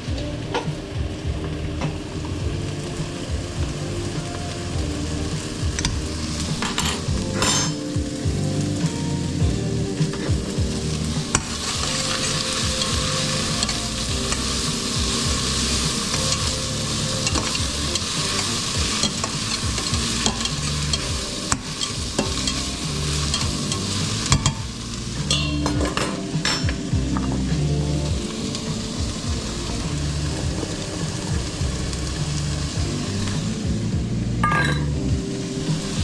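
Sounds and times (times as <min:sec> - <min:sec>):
food sizzling in a pan: 0:00.0 - 0:36.0.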